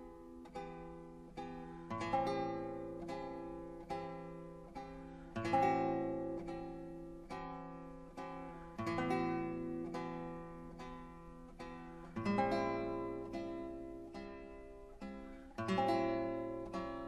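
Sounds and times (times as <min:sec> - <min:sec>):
lute plucked chords and notes: 0:00.0 - 0:17.0.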